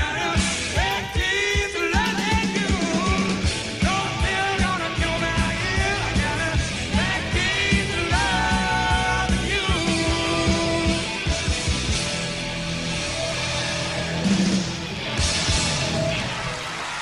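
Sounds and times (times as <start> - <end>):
steady drum beat: 0.0 - 16.5
rock song with singing: 0.0 - 17.0.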